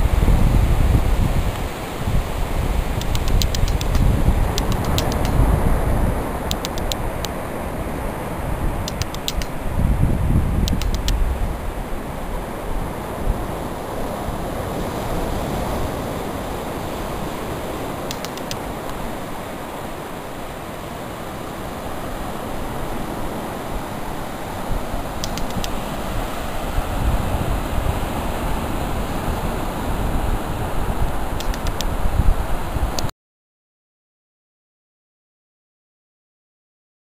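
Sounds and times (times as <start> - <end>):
wind buffeting microphone: 0.0 - 19.5, 22.0 - 33.1
surf washing onto beach: 0.0 - 33.0.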